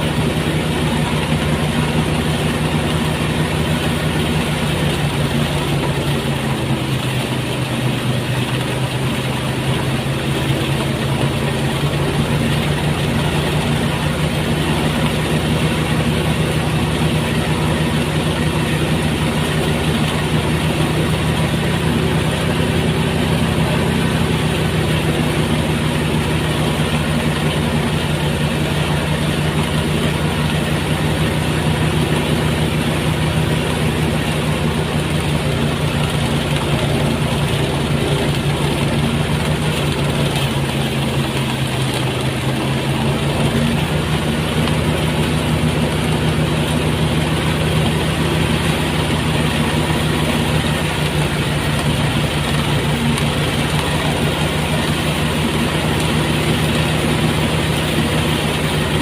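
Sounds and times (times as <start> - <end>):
rice thresher engine running: 0.0 - 59.0.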